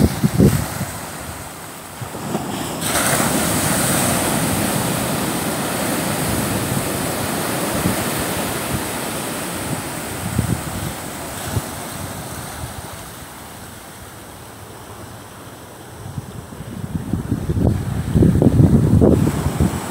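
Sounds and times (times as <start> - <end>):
wind buffeting microphone: 0.0 - 13.2, 16.0 - 19.9
waves washing among rocks: 0.0 - 15.2, 17.2 - 19.9.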